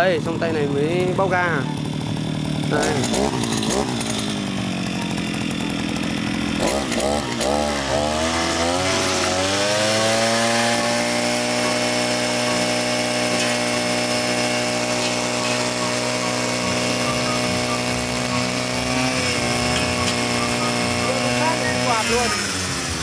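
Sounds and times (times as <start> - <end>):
brush cutter engine revving: 0.0 - 23.0
trimmer line cutting grass: 0.0 - 23.0.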